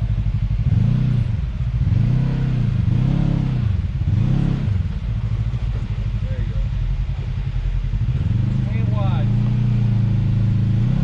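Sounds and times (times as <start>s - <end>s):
utility vehicle engine revving: 0.0s - 11.0s.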